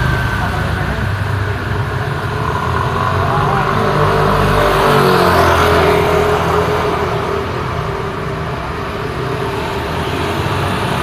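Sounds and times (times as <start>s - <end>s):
street traffic rush: 0.0s - 11.0s.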